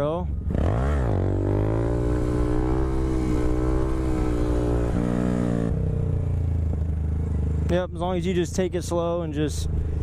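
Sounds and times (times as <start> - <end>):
motorcycle engine under throttle: 0.0 - 10.0.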